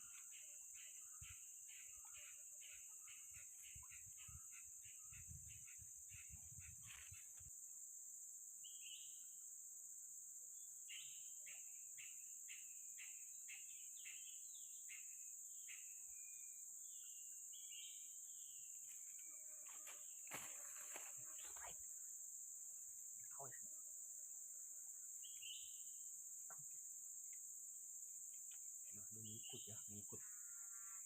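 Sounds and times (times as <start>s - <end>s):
insect drone: 0.0s - 31.0s.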